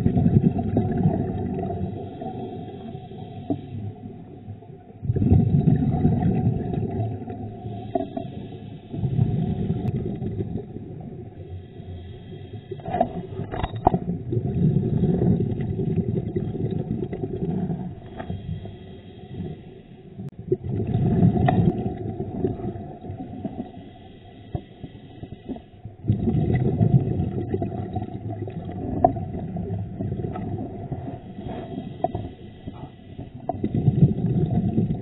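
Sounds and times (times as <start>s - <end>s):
underwater bubbles gurgling: 0.0s - 35.0s.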